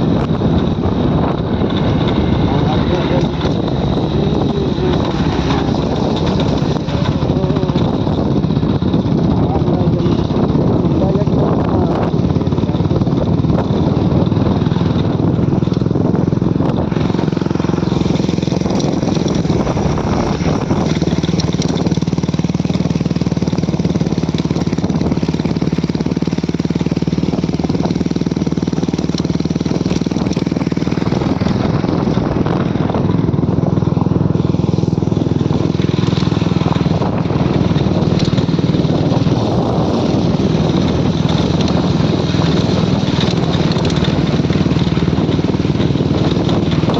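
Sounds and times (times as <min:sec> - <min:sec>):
motorcycle engine running: 0:00.0 - 0:46.9
road noise: 0:00.0 - 0:46.9.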